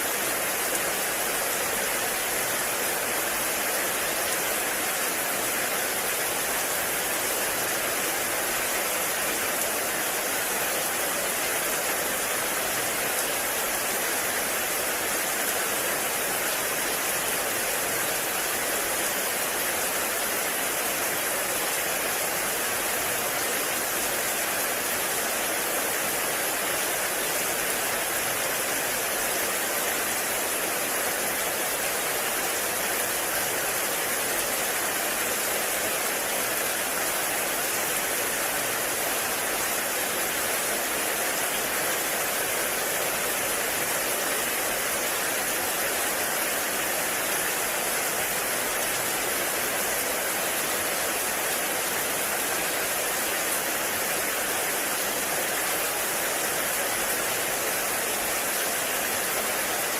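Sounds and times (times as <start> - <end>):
heavy rain in a forest: 0.0 - 59.9.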